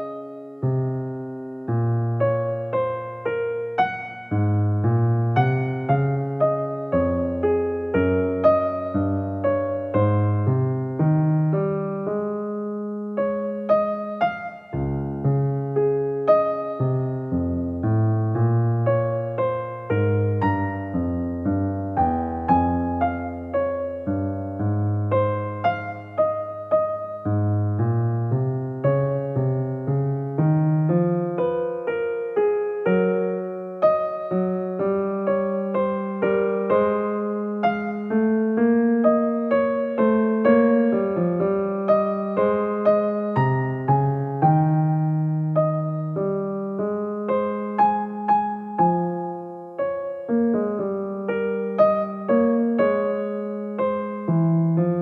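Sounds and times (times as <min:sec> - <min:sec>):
electric piano melody: 0:00.0 - 0:55.0
gentle keyboard music: 0:00.0 - 0:55.0.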